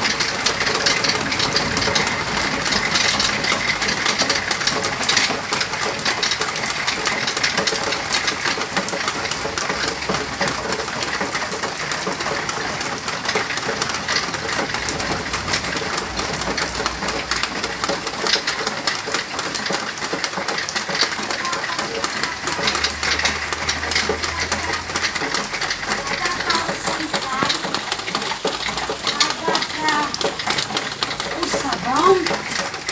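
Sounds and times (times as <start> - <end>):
rain falling steadily: 0.0 - 32.9.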